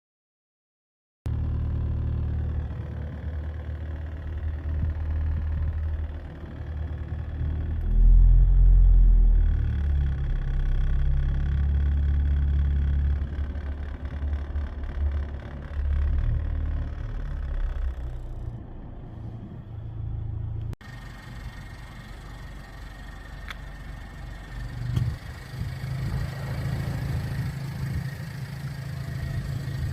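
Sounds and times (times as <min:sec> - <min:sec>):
car engine droning: 0:01.3 - 0:29.9.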